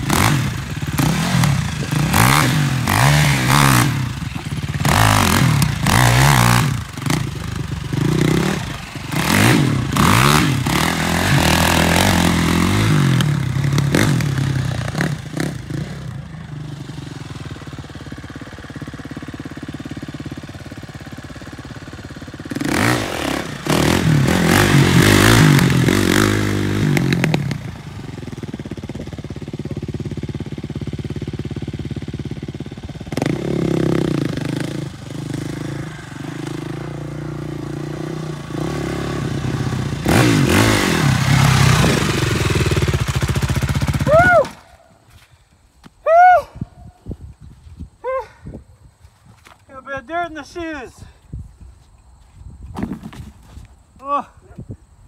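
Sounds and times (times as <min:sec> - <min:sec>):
quad engine revving: 0:00.0 - 0:44.7.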